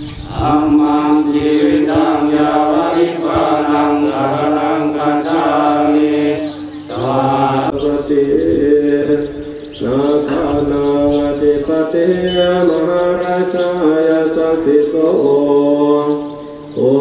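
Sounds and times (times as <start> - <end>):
monotone chanting: 0.0 - 17.0.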